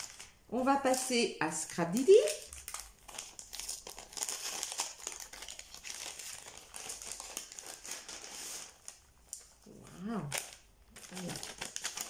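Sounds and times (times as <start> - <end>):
paper packaging crinkling: 0.0 - 12.0.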